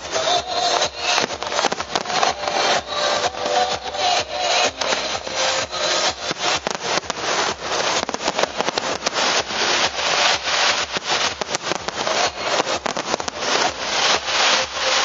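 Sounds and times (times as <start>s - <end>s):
fireworks crackling: 0.0s - 15.0s
loud firework cracks: 0.0s - 15.0s.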